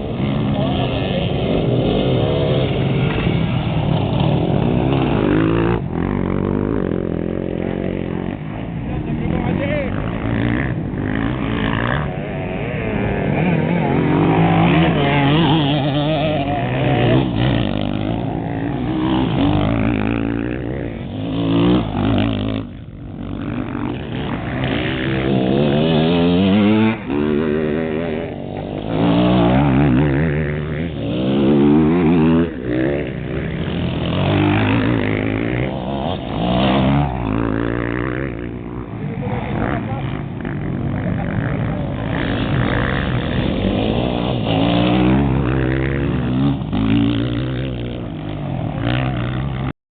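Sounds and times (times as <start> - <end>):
motocross bikes revving past: 0.0 - 49.8.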